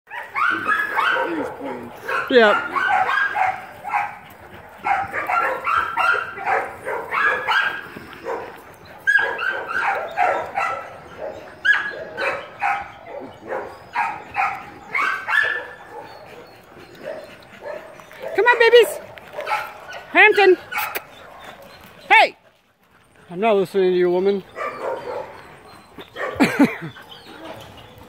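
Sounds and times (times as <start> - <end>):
dog barking and yipping: 0.1 - 22.3, 24.4 - 28.0.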